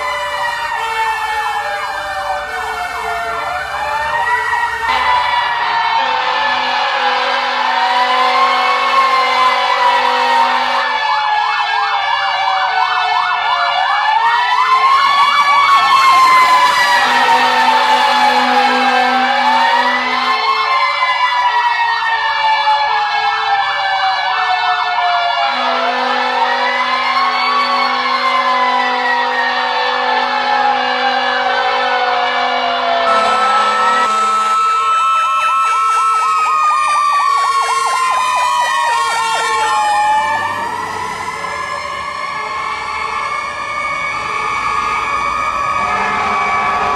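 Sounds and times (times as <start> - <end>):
electronic siren yelping: 0.0 - 46.9
fire truck engine rumble: 0.0 - 46.9
mechanical siren wailing: 0.0 - 46.9.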